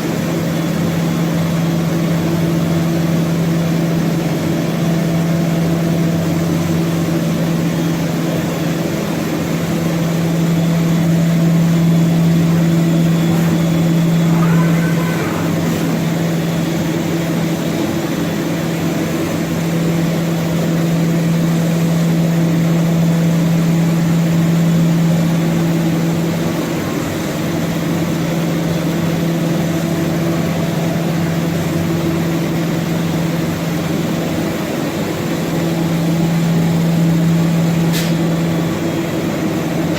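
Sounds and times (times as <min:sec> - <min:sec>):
woodworking machine humming: 0:01.9 - 0:39.9.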